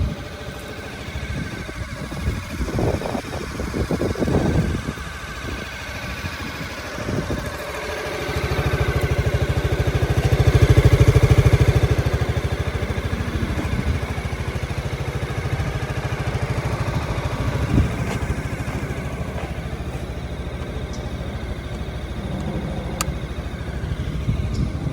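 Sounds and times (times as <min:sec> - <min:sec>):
scooter engine starting and idling: 0:00.0 - 0:24.9.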